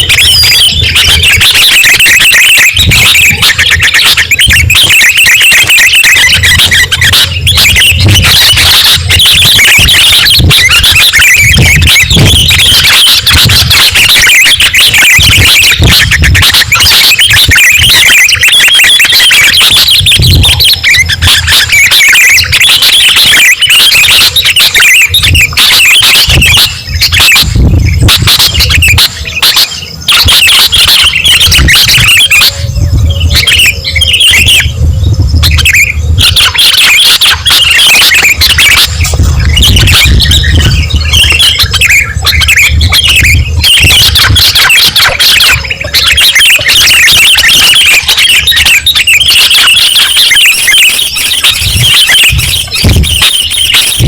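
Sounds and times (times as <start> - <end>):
bulbuls calling and chattering: 0.0 - 54.0.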